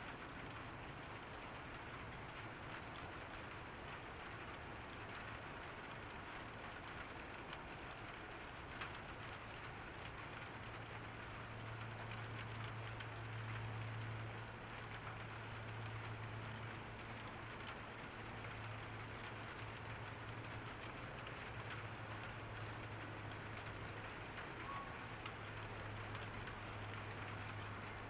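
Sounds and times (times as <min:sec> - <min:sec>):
rain falling on a garden: 0:00.0 - 0:28.0.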